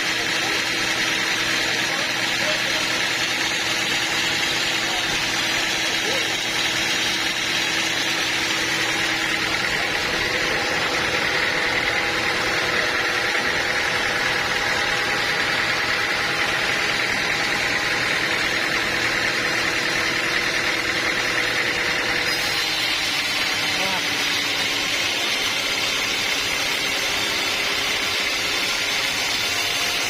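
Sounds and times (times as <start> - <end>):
sawmill machinery drone and hiss: 0.0 - 30.0.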